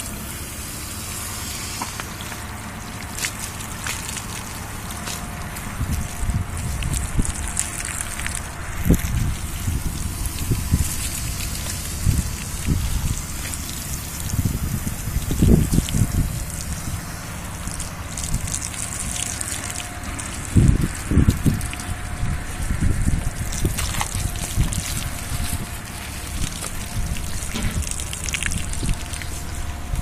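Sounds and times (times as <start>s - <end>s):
hose spraying water: 0.0s - 30.0s.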